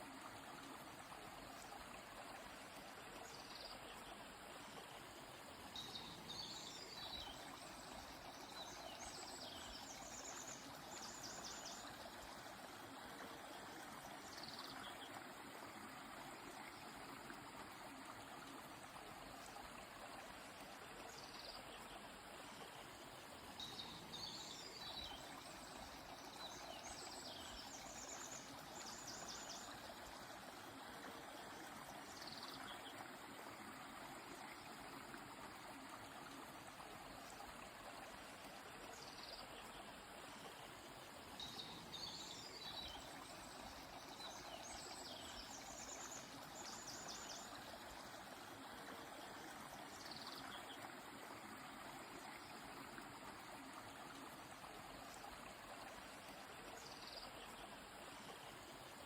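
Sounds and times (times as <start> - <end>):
flowing river: 0.0 - 59.0.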